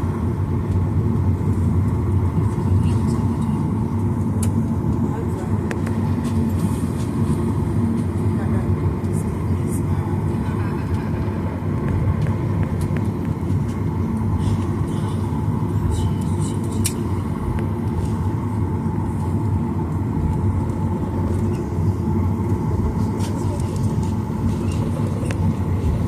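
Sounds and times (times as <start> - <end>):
jet engine cabin roar: 0.0 - 26.0.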